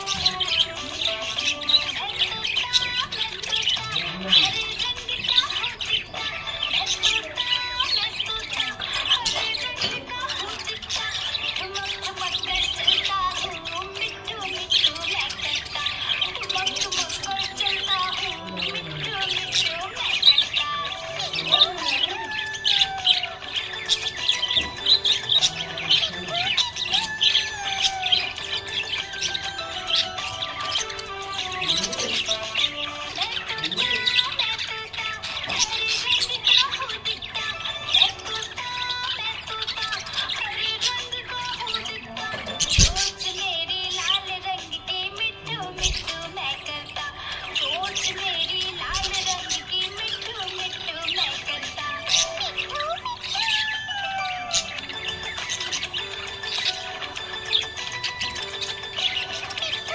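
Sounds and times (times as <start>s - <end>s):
budgie chirping and warbling: 0.0s - 59.9s.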